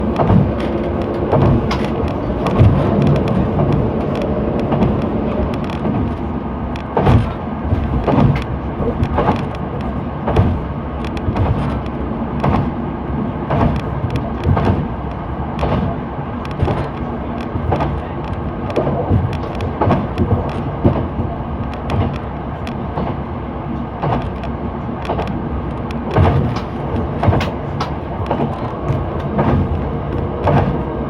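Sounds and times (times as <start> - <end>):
train running rumble: 0.0 - 31.0
wheels clacking over rail joints: 0.0 - 31.0.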